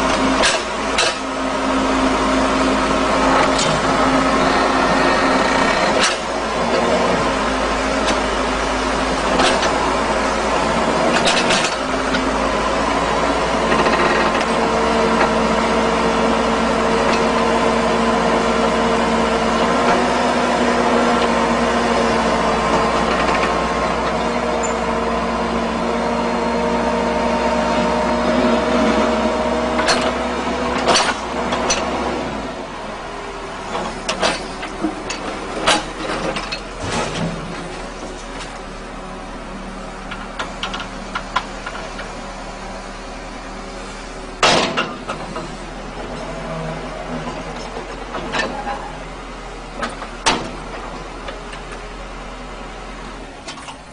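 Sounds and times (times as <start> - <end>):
excavator engine under load: 0.0 - 53.9.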